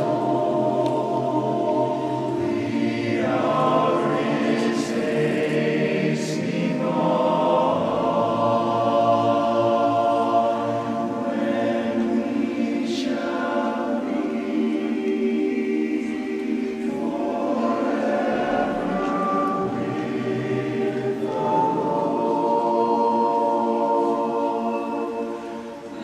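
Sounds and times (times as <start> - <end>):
men's chorus singing in harmony: 0.0 - 26.0.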